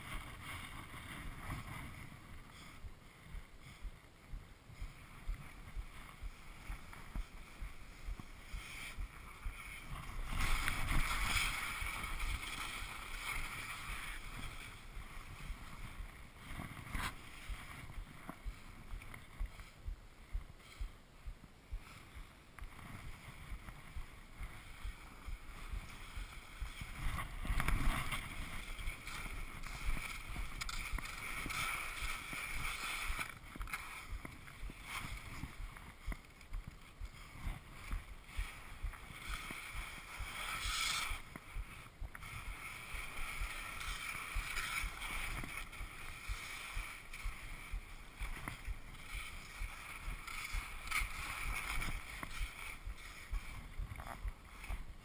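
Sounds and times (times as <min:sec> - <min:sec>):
skis scraping on snow: 0:00.0 - 0:21.0, 0:21.8 - 0:55.0
deep rush of snow: 0:00.0 - 0:55.0
wind on microphone: 0:00.0 - 0:55.0.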